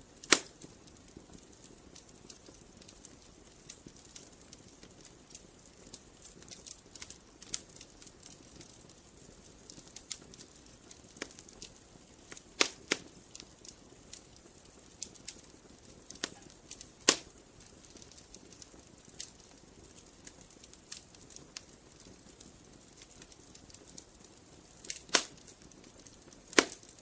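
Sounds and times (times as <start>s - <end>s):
faint fire hiss: 0.0s - 27.0s
wood fire crackling: 0.0s - 27.0s.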